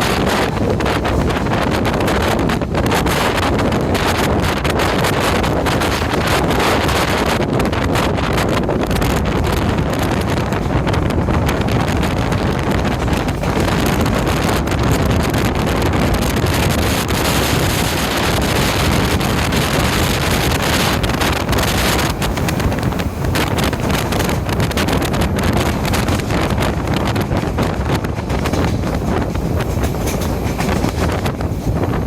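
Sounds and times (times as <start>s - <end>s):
train rumbling past: 0.0s - 32.0s
wind buffeting microphone: 0.0s - 32.0s.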